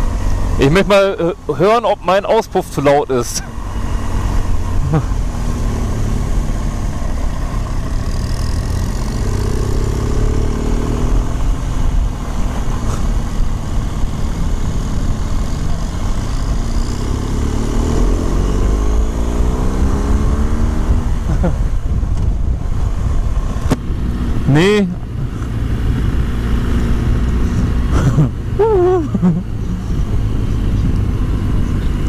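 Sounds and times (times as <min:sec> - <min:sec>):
motorcycle engine: 0:00.0 - 0:32.0.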